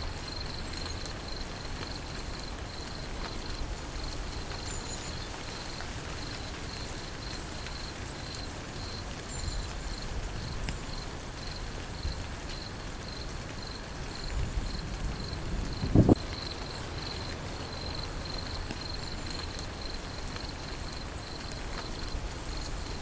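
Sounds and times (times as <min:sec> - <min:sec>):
steady rain falling: 0:00.0 - 0:23.0
insect chirping: 0:00.1 - 0:23.0.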